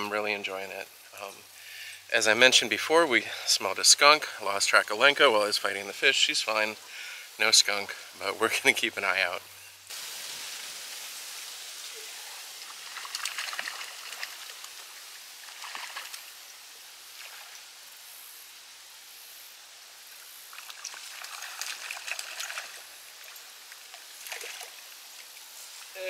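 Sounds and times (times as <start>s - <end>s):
steady hiss: 0.0s - 26.0s
water splashing and trickling: 0.0s - 26.0s.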